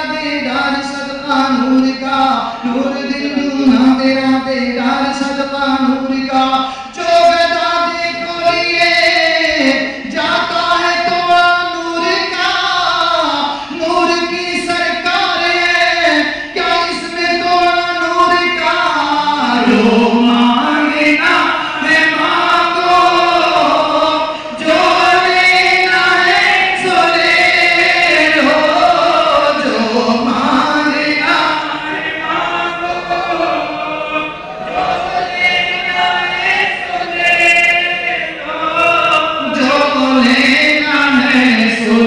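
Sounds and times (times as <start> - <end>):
crowd singing a chant in unison: 0.0 - 42.0.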